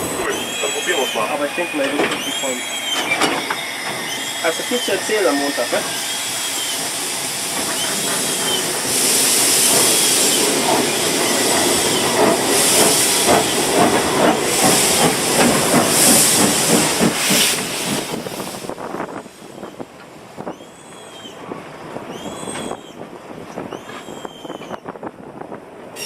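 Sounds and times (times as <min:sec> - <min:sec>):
wheels squealing on rails: 0:00.0 - 0:17.6, 0:20.4 - 0:21.4, 0:22.0 - 0:25.0
steam locomotive puffing and hissing: 0:00.0 - 0:21.0
train running: 0:00.0 - 0:26.0.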